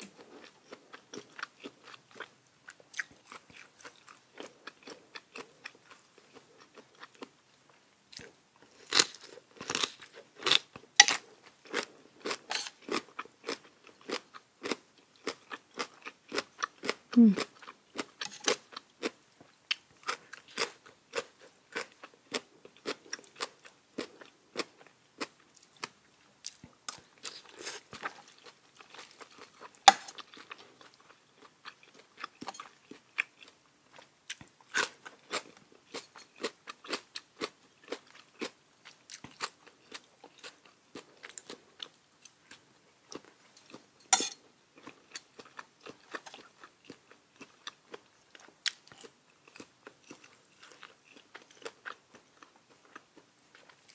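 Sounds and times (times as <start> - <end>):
person chewing and crunching: 0.0 - 53.9.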